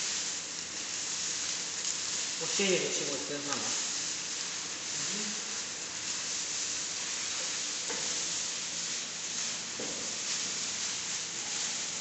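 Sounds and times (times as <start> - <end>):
laminating machine hiss: 0.0 - 12.0.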